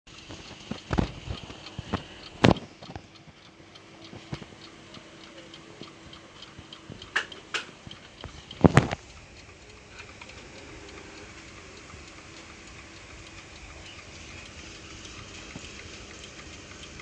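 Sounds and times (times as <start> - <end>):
alarm clock ticking: 0.1 - 17.0.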